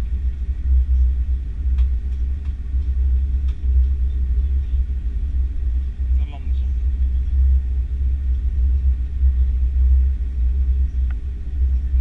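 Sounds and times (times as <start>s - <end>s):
low rumble inside aircraft cabin: 0.0s - 12.0s.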